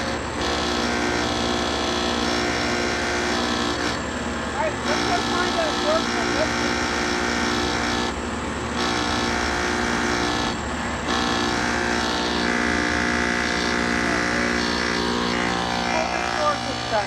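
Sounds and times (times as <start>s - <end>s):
air conditioner mechanical drone: 0.0s - 17.0s.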